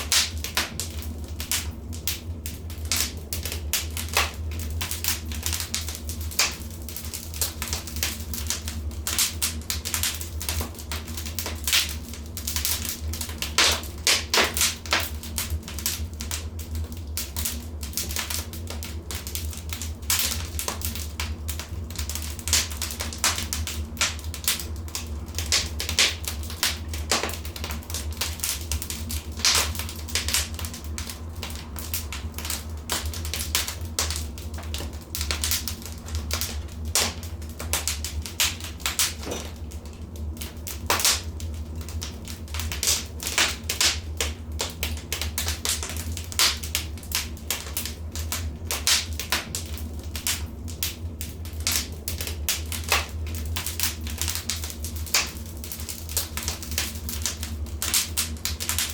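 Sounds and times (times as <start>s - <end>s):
steady low hum: 0.0s - 58.9s
wood fire crackling: 0.0s - 58.9s.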